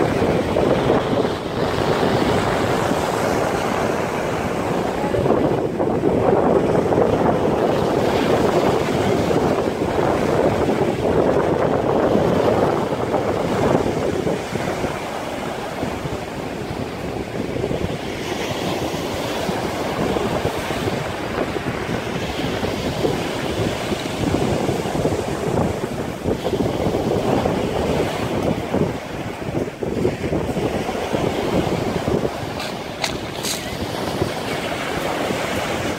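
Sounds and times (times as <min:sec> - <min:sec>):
rushing water and waves: 0:00.0 - 0:35.9
wind buffeting microphone: 0:00.0 - 0:35.9.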